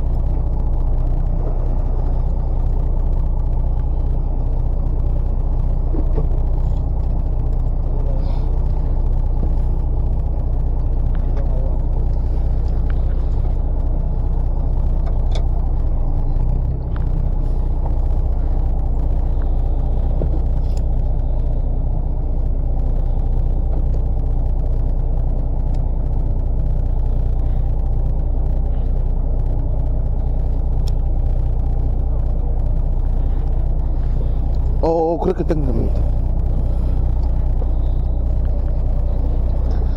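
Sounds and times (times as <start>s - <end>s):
faint clicks: 0.0s - 34.8s
boat engine droning: 0.0s - 39.9s.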